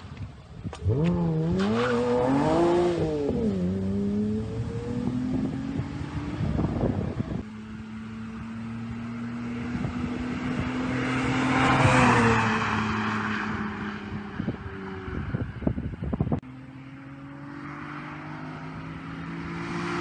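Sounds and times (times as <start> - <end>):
car passing by: 0.8 - 15.8, 16.5 - 20.0
car engine revving: 0.8 - 20.0.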